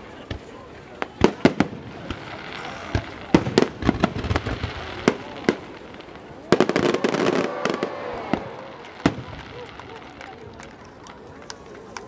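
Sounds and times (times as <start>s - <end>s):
fireworks bangs: 0.0s - 11.1s.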